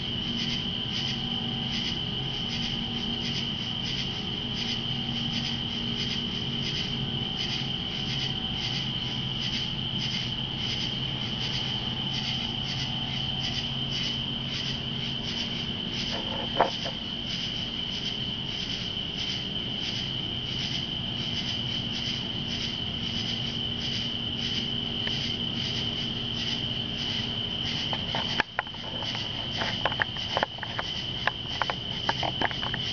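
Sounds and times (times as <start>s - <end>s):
insects trilling: 0.0s - 32.9s
pulsing insect call: 0.0s - 32.9s.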